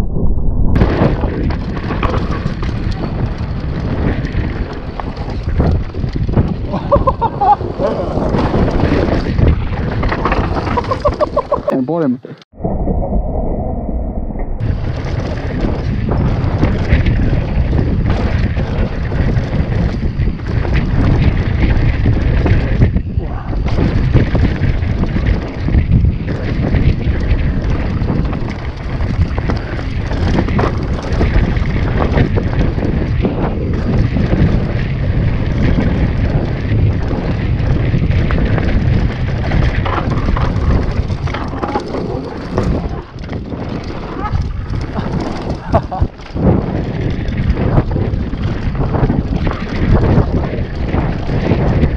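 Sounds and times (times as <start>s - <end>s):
mountain bike rumble: 0.0s - 11.8s, 12.5s - 51.9s
wind buffeting microphone: 0.0s - 11.8s, 12.4s - 51.9s
bike knocks and rattles: 0.8s - 11.7s, 14.6s - 51.9s.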